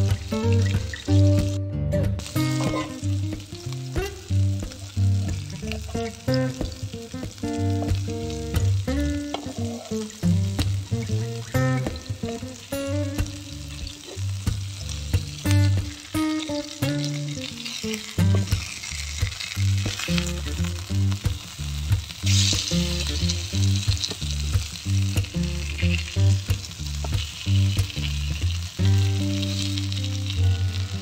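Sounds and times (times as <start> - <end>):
fish sizzling in oil: 0.0 - 1.6, 2.2 - 31.0.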